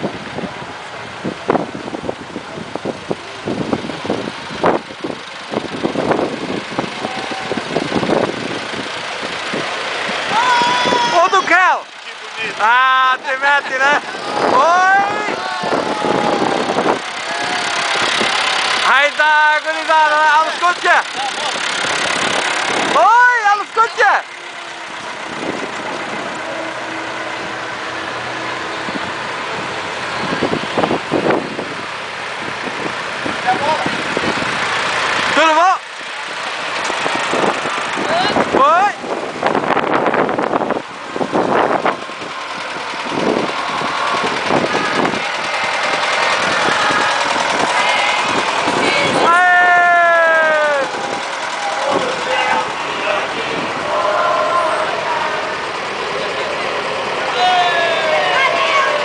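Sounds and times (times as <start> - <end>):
truck and tractor engines passing: 0.0 - 59.0.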